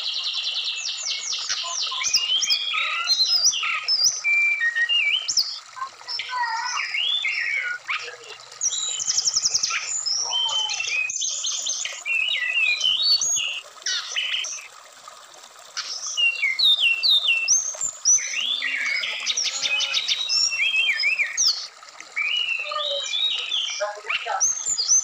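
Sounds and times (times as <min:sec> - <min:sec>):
bird singing whistles and trills: 0:00.0 - 0:14.7, 0:15.8 - 0:25.0
faint running stream: 0:00.0 - 0:25.0.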